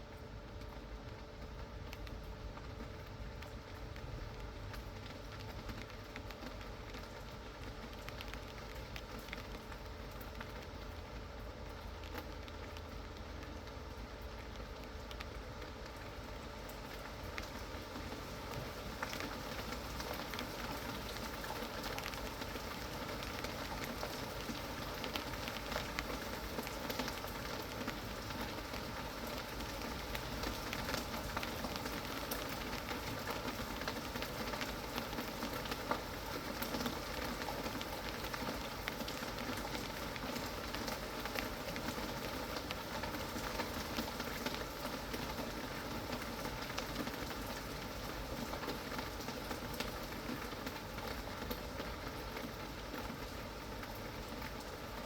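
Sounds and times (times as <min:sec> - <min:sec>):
raindrops ticking on a surface: 0:00.0 - 0:55.0
rain falling: 0:00.6 - 0:55.0.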